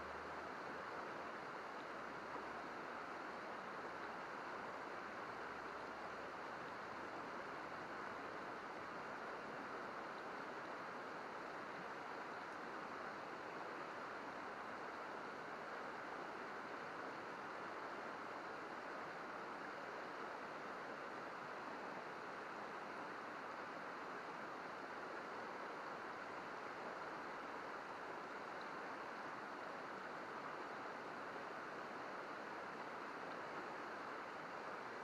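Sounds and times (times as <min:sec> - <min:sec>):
river babbling over rocks: 0:00.0 - 0:35.0.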